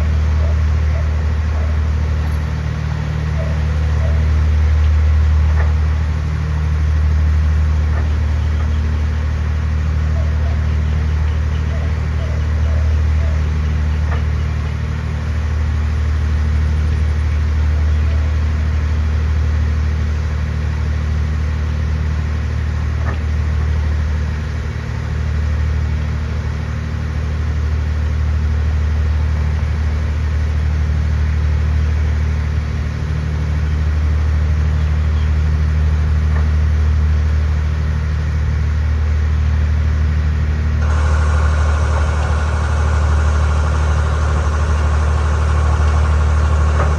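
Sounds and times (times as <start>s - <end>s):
diesel engine droning: 0.0s - 46.9s.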